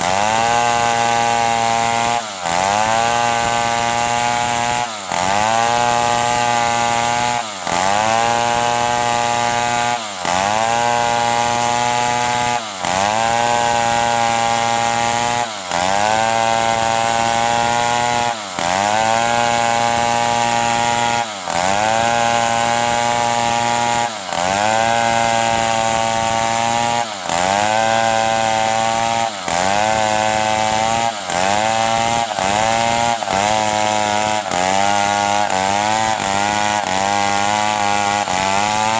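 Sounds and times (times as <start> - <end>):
chainsaw sawing wood: 0.0 - 38.9.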